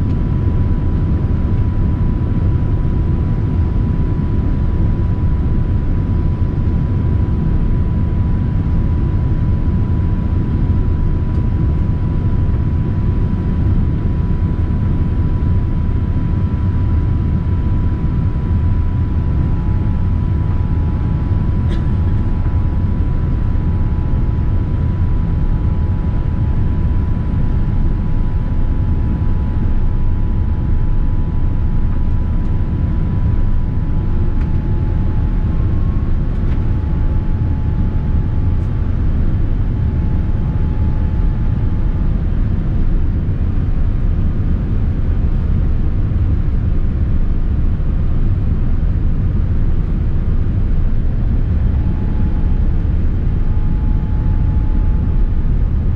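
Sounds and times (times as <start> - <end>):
faint steady whine: 0.0 - 55.9
low rumble of engines and airflow: 0.0 - 55.9.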